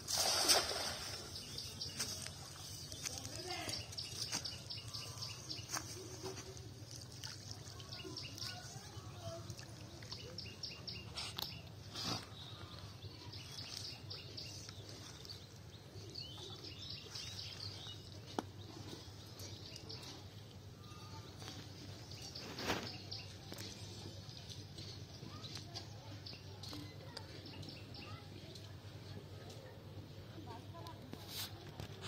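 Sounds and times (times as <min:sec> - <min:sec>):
small birds chirping: 0:00.2 - 0:28.8.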